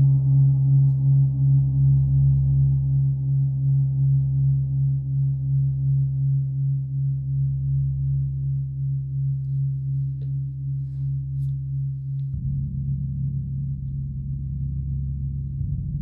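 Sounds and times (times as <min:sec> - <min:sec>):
gong rubbed humming drone: 0:00.0 - 0:16.0.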